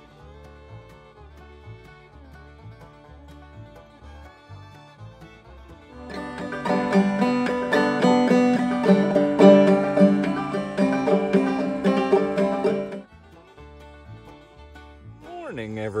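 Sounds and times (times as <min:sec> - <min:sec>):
banjo picking: 0:00.0 - 0:15.8.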